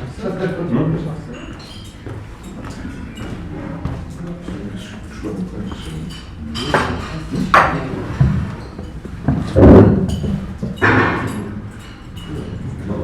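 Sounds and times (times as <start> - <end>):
murmur of conversation: 0.0 - 13.0
dishes and cutlery clinking: 1.3 - 13.0.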